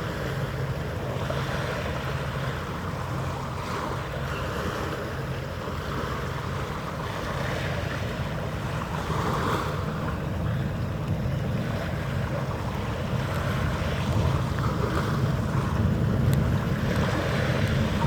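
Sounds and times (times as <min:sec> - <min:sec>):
wind gusting on microphone: 0:00.0 - 0:18.0.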